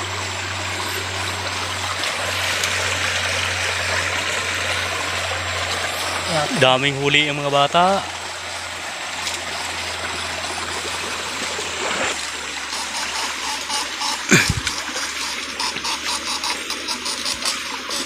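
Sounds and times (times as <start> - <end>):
stream trickling over rocks: 0.0 - 18.0.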